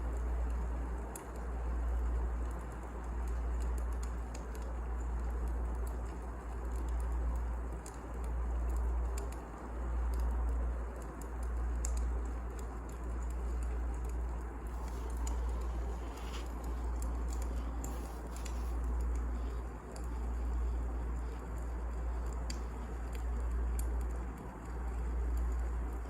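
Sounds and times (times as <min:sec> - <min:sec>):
low fire rumble: 0:00.0 - 0:26.0
wood fire crackling: 0:00.0 - 0:26.0.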